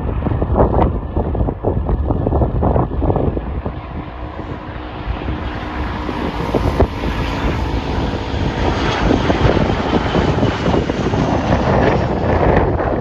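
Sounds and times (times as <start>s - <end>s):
jet engines passing: 0.0s - 13.0s.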